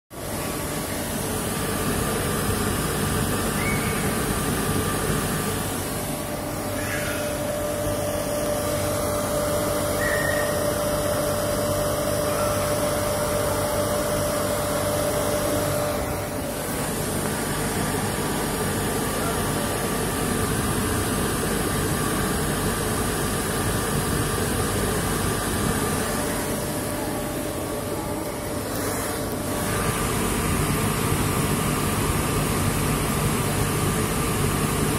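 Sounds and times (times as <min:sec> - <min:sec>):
cotton candy machine whirring: 0:00.1 - 0:34.9.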